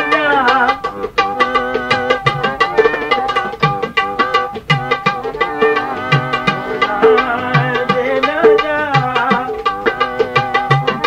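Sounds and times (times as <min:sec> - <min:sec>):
man singing: 0:00.0 - 0:11.0
tabla drumming: 0:00.0 - 0:11.0.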